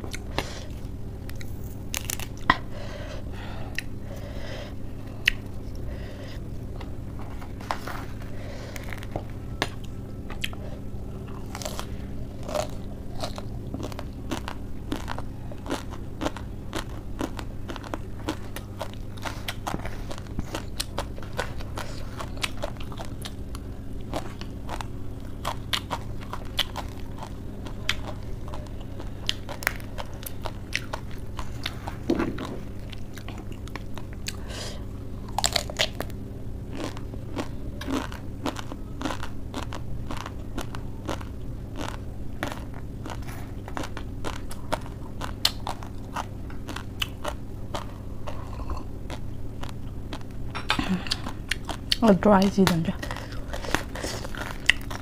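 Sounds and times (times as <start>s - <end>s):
crunchy chewing of dry noodles: 0.0s - 55.0s
low hum: 0.0s - 55.0s.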